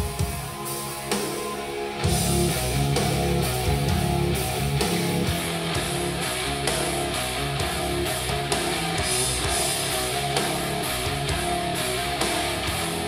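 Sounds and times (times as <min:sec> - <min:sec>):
rock music through speaker: 0:00.0 - 0:13.0.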